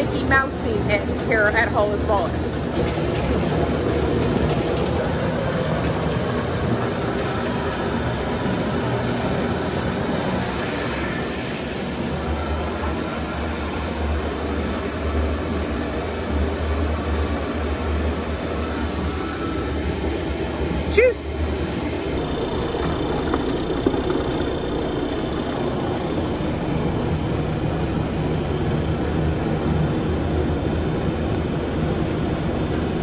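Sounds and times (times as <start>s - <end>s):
machinery rumbling and humming: 0.0s - 33.0s.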